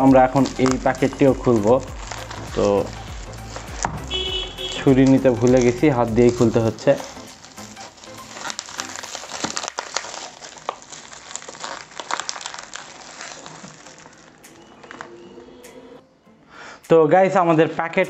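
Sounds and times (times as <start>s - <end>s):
bubble wrap crinkling and tearing: 0.0s - 15.4s.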